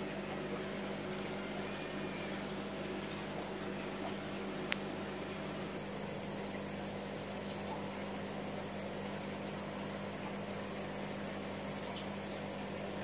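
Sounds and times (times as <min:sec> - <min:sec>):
aquarium filter bubbling: 0:00.0 - 0:13.0.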